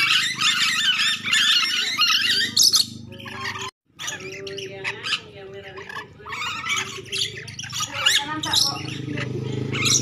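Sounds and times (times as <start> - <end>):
parrots squawking: 0.0 - 10.0.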